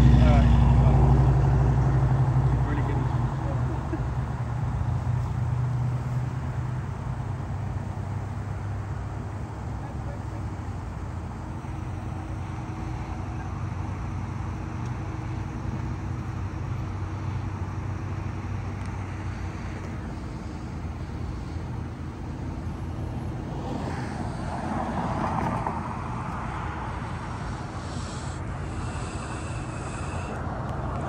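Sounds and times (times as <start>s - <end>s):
continuous low hum: 0.0s - 31.0s
road traffic: 0.0s - 31.0s.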